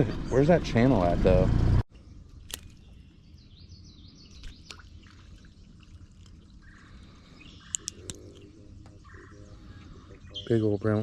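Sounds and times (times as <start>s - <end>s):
faint bird chirps: 1.9s - 11.0s.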